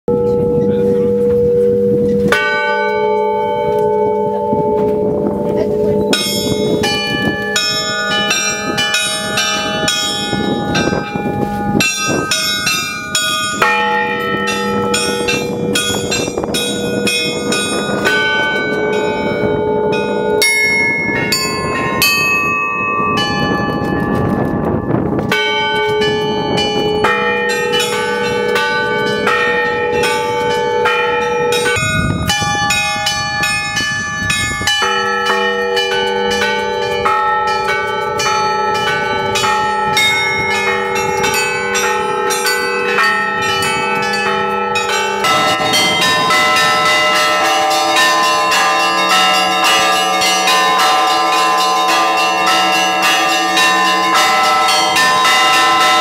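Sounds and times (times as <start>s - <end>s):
lower bells ringing: 0.1s - 56.0s
small high bells rapid strikes: 0.1s - 56.0s.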